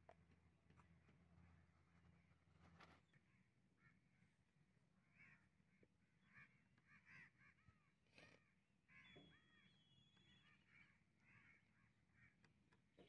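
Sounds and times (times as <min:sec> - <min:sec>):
faint birds calling: 0:00.1 - 0:13.0.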